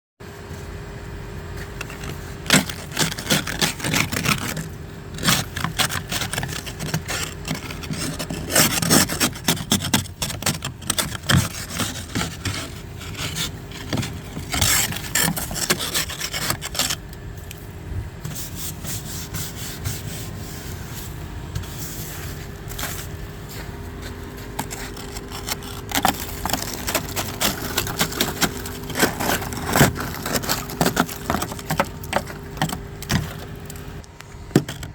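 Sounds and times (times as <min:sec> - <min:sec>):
steady low hum: 0:00.2 - 0:34.9
rasping scrapes on snow and ice: 0:01.8 - 0:17.1, 0:18.2 - 0:34.0.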